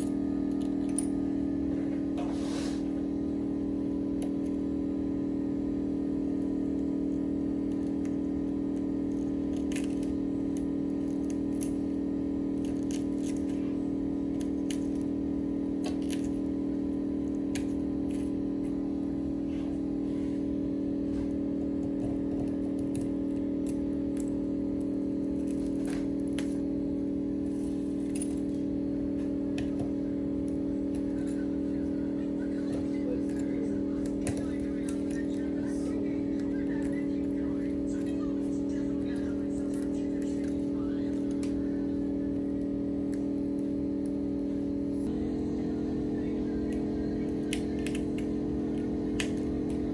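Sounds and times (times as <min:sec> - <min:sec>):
machine electrical hum: 0:00.0 - 0:49.9.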